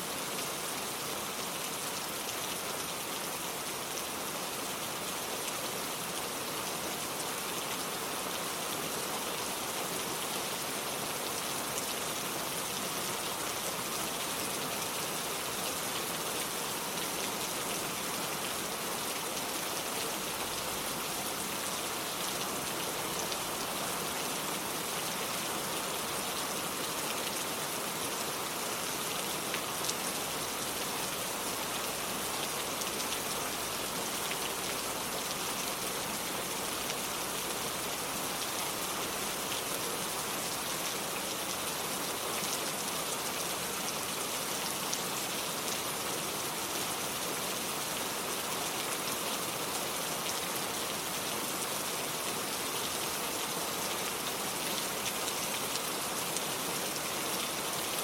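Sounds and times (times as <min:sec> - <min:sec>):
rain on hard surfaces: 0:00.0 - 0:58.0.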